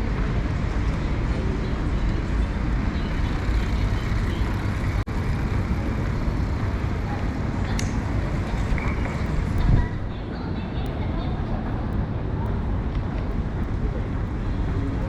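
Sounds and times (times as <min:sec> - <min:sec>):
murmur of crowd voices: 0:00.0 - 0:15.0
traffic noise: 0:00.0 - 0:15.0.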